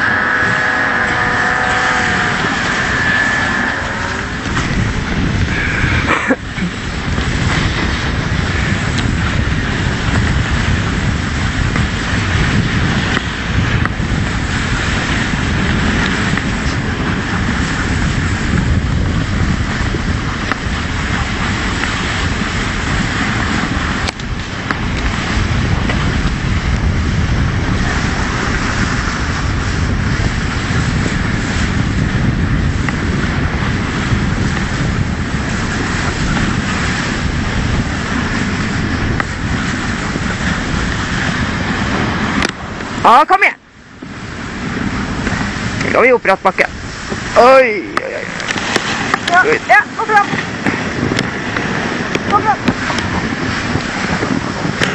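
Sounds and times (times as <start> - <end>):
sled runners hissing over snow: 0.0 - 54.9
wind buffeting microphone: 0.0 - 54.9.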